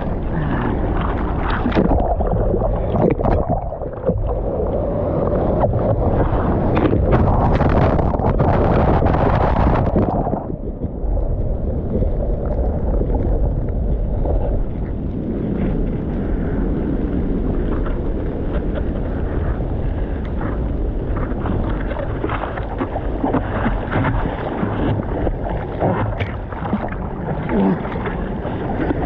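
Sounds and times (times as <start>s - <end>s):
water splashing: 0.0s - 15.1s, 18.6s - 29.0s
sea water rushing: 0.0s - 29.0s
wind buffeting camera: 0.0s - 29.0s.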